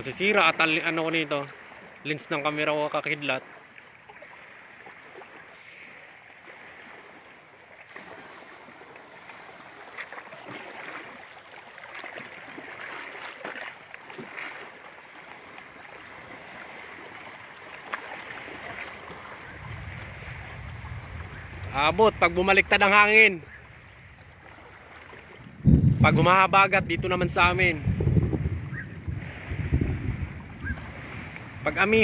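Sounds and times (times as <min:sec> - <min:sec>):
waves lapping and splashing: 0:00.0 - 0:32.0.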